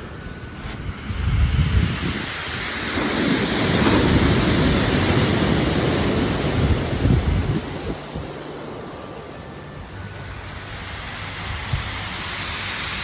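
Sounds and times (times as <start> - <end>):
sea waves washing in: 0.0 - 13.0
wind rumbling on microphone: 0.0 - 13.0.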